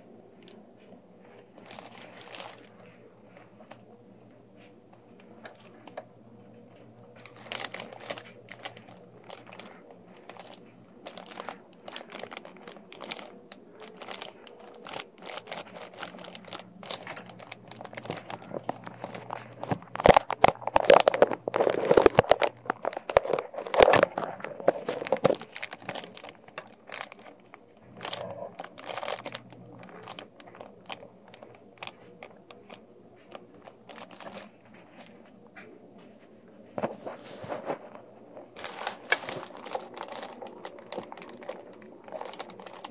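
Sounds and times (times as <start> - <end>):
faint steady hum: 0.0 - 42.9
plastic sheeting crinkling: 0.4 - 3.8, 6.7 - 35.3, 36.8 - 42.9.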